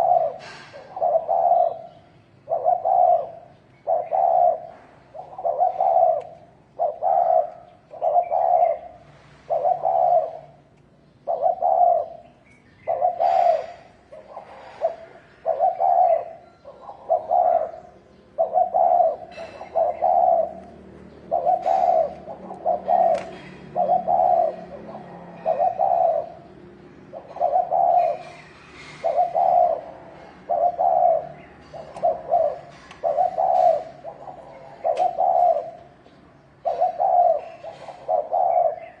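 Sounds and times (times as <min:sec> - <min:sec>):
doves cooing: 0:00.0 - 0:39.0.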